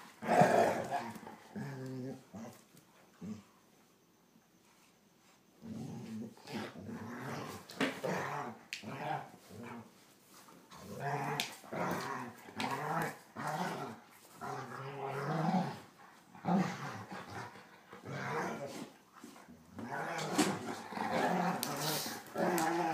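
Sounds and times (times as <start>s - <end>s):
dogs growling: 0.1s - 2.6s, 5.6s - 9.9s, 10.7s - 22.9s.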